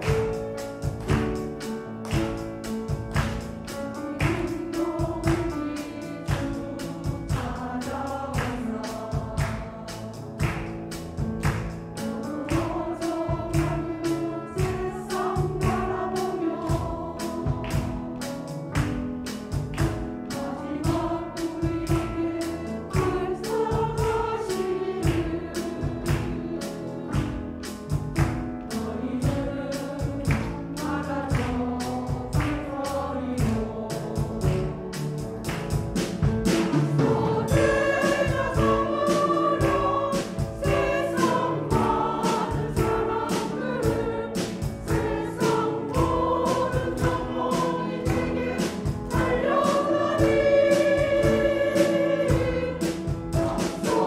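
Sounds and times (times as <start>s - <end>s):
steady percussive beat: 0.0s - 54.0s
women's choir singing a hymn: 0.0s - 54.0s.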